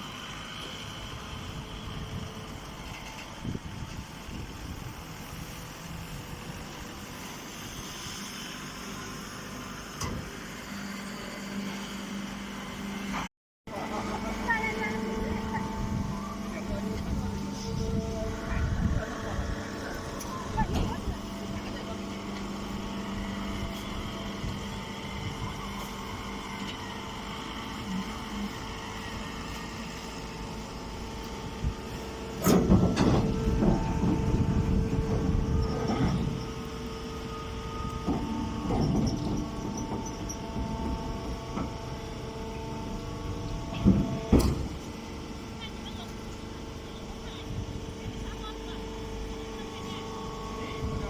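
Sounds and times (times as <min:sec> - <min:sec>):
baler mechanical hum: 0:00.0 - 0:51.0.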